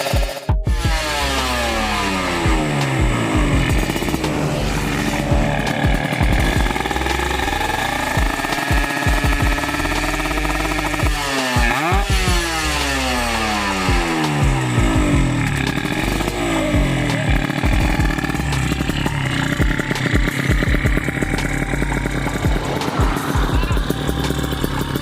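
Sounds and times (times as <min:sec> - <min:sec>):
motorcycle engine revving unevenly: 0:00.7 - 0:25.0.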